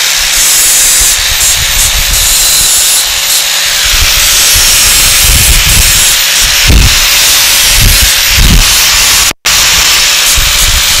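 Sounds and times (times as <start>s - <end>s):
grinder grinding steel: 0.0s - 11.0s.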